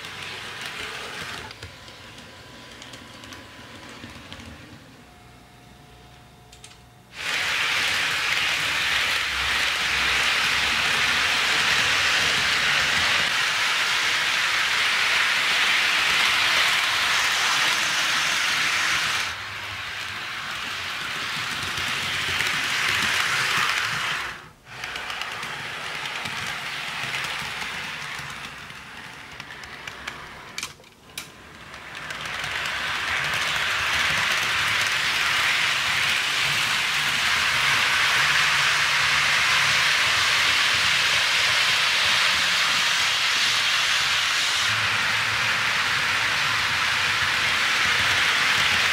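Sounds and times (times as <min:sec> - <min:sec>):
model train wheels rattling on rails: 0:00.0 - 0:01.6, 0:07.2 - 0:48.9.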